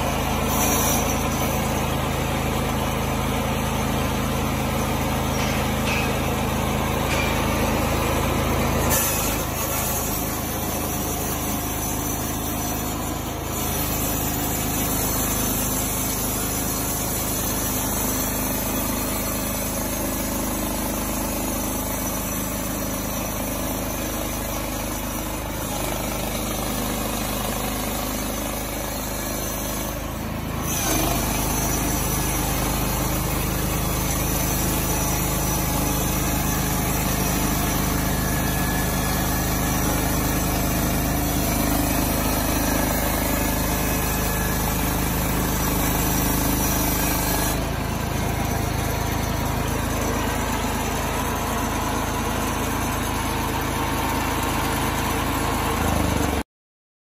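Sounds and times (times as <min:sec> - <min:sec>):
band sawmill cutting board: 0:00.0 - 0:56.4.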